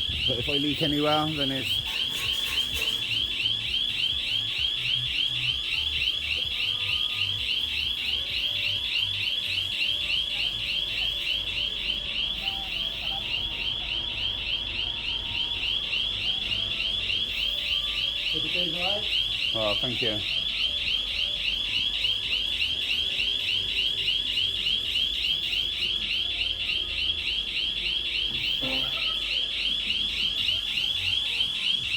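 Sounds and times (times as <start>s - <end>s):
warbling alarm tone: 0.0s - 31.9s.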